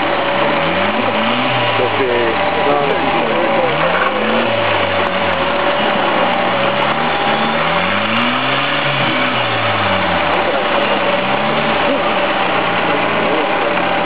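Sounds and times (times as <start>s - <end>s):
tractor engine revving: 0.0s - 14.0s.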